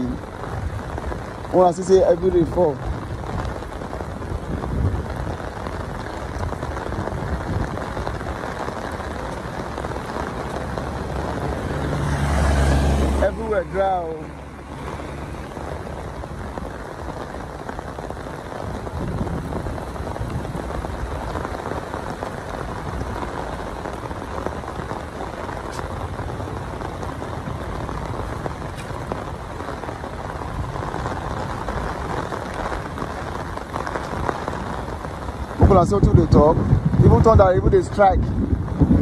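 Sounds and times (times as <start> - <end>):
heavy rain on a road: 0.0 - 39.0.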